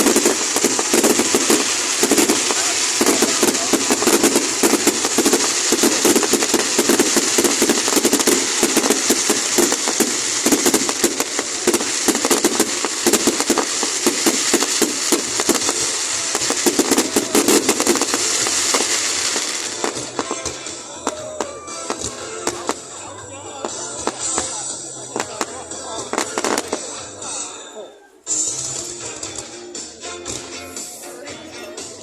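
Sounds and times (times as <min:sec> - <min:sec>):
fireworks crackling and banging: 0:00.0 - 0:27.5.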